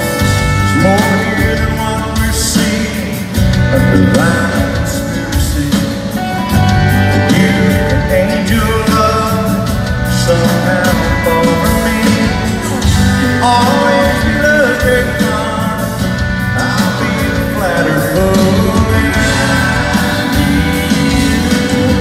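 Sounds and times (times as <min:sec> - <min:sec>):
live country band playing: 0:00.0 - 0:22.0
man singing: 0:00.0 - 0:22.0.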